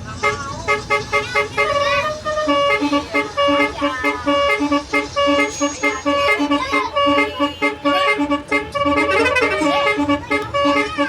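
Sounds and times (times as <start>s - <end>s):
multi-tone horn melody: 0.2s - 11.0s.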